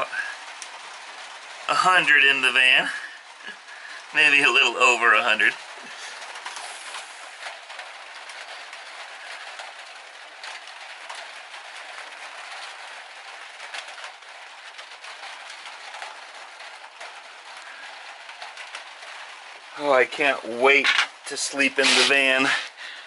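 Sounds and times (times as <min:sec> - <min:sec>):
rain hissing on van roof: 0:00.0 - 0:23.0
raindrop taps: 0:00.0 - 0:23.0.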